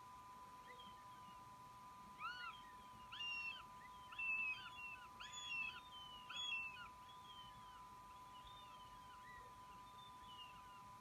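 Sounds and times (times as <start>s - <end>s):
faint hum: 0.0s - 11.0s
young hawk begging calls: 2.2s - 11.0s.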